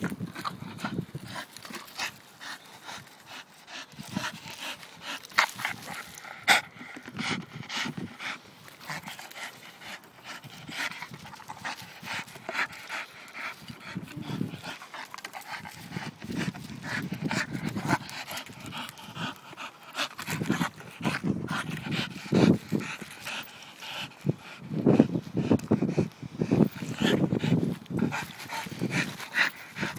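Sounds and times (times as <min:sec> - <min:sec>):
dog panting: 0:00.1 - 0:29.9.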